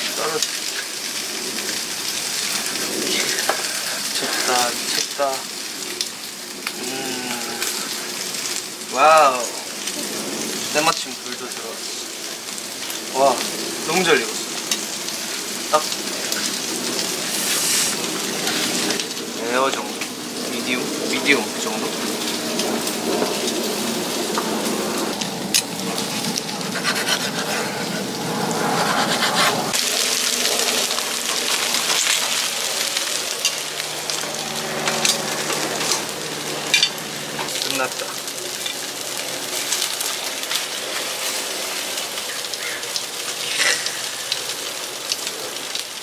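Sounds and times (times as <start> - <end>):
meat sizzling on a grill: 0.0 - 28.8, 29.7 - 46.0.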